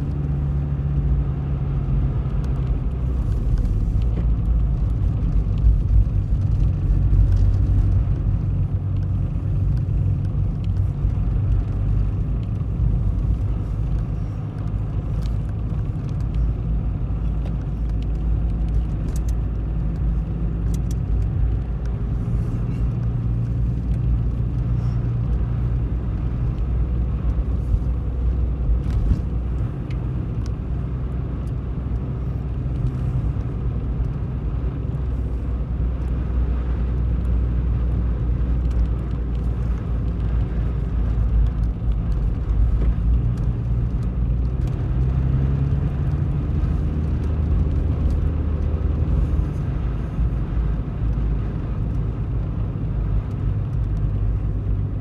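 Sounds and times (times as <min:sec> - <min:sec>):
car engine and tyre hum: 0:00.0 - 0:55.0.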